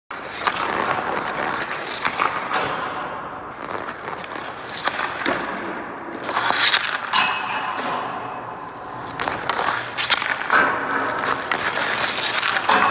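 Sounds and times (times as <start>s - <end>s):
skates scraping on ice: 0.1s - 12.9s
stick striking puck: 0.3s - 3.2s, 3.9s - 12.9s.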